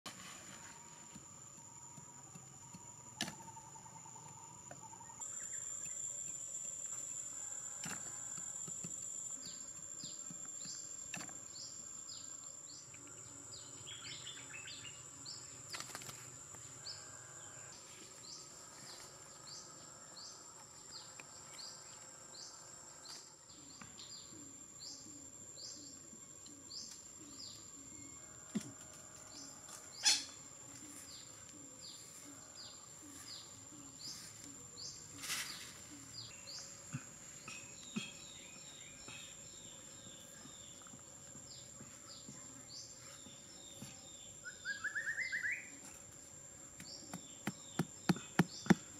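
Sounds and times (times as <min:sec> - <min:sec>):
insects droning: 0:00.1 - 0:48.9.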